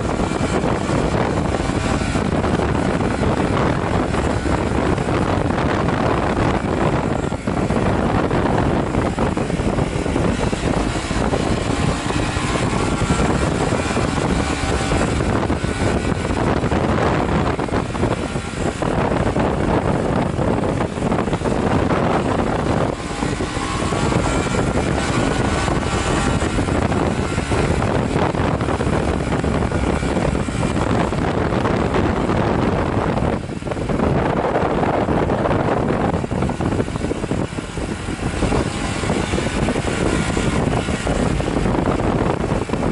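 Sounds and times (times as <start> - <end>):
motorcycle engine running: 0.0 - 42.9
wind rush on microphone: 0.0 - 42.9.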